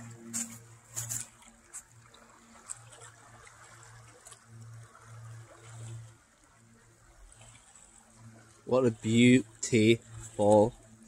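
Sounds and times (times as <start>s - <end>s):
low hum: 0.0s - 11.0s
waves lapping against a bank: 0.0s - 11.0s.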